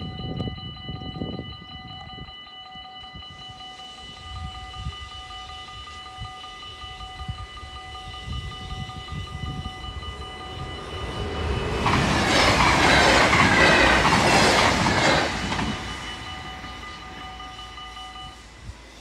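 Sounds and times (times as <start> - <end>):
level crossing bells ringing: 0.0 - 18.6
passenger train passing: 0.0 - 19.0.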